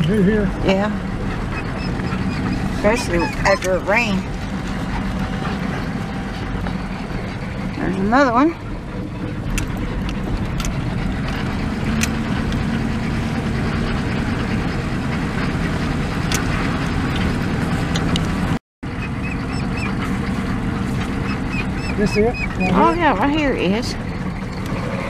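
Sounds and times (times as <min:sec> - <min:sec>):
tyre noise on dirt road: 0:00.0 - 0:25.0
vehicle engine hum: 0:00.0 - 0:25.0.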